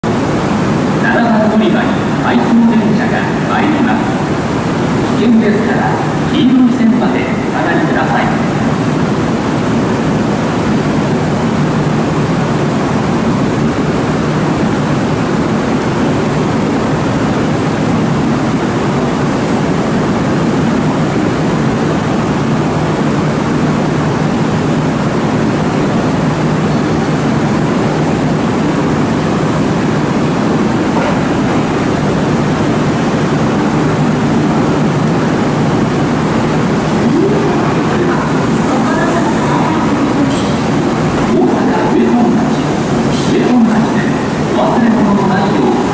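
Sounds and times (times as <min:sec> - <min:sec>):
electric train rumbling in: 0:00.0 - 0:45.9.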